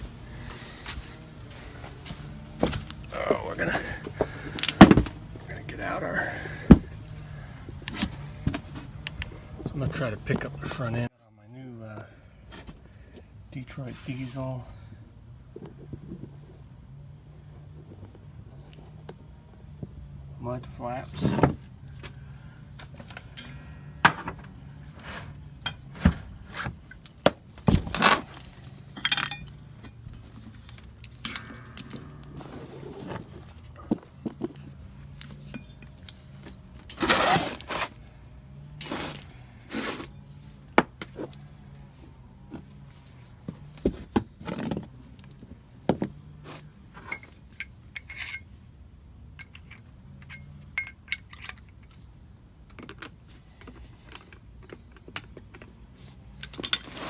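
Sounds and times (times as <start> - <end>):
metal tools clanking: 0.0 - 11.1, 20.2 - 27.2, 27.8 - 42.9, 43.5 - 57.0.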